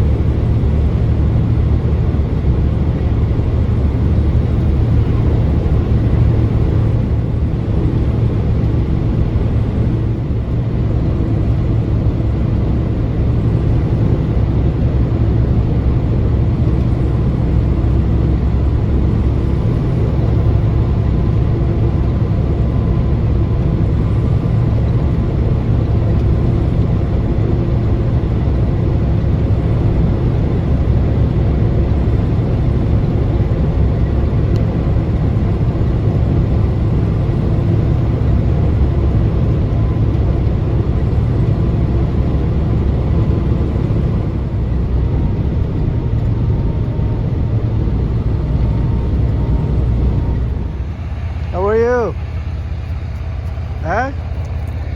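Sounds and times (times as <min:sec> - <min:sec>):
vehicle engine and road rumble: 0:00.0 - 0:54.9.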